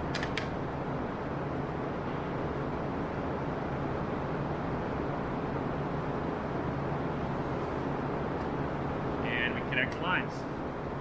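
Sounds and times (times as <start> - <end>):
mechanical hum with airy rush: 0.0 - 11.0.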